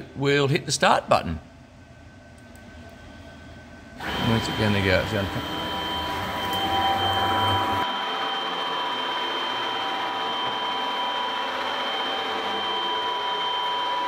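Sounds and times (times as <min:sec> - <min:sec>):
machine hum with high whine: 0:00.0 - 0:14.0.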